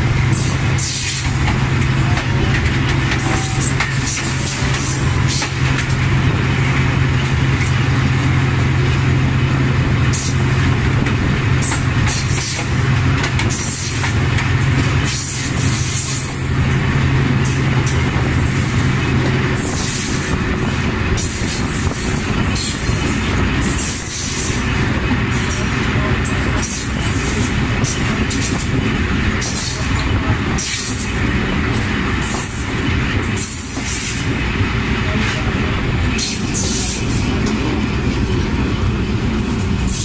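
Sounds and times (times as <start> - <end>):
diesel locomotive engine hum: 0.0 - 40.0.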